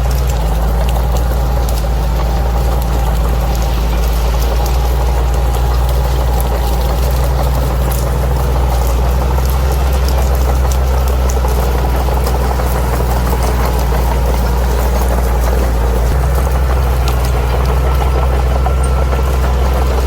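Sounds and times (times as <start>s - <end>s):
bulldozer diesel engine running: 0.0s - 20.0s
sharp clicks and ticks: 0.0s - 20.0s.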